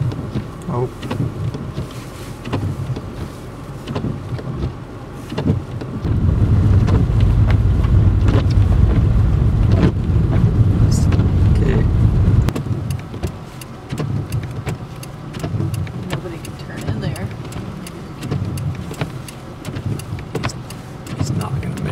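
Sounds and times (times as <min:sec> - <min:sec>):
car cabin hum: 0:00.0 - 0:21.9
engine and tyres rumbling: 0:00.0 - 0:21.9.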